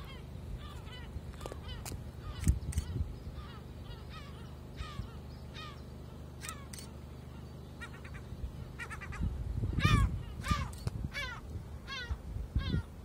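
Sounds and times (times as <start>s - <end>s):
gulls calling: 0.0s - 13.0s
low steady rumble: 0.0s - 13.0s.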